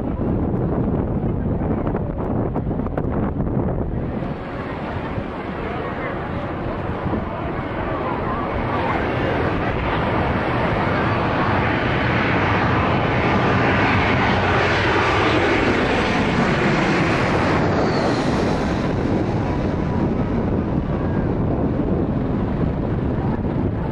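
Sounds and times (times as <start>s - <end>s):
jet engine high whine: 0.0s - 23.9s
jet engines roaring overhead: 0.0s - 23.9s.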